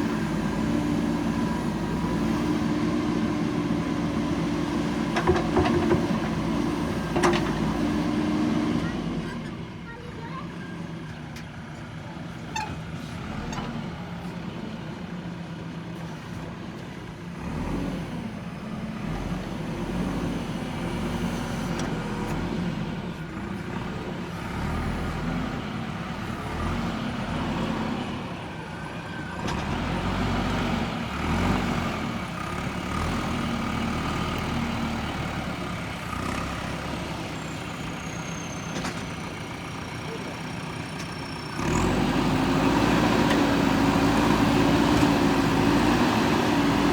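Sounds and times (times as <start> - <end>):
backhoe diesel engine digging: 0.0 - 46.9.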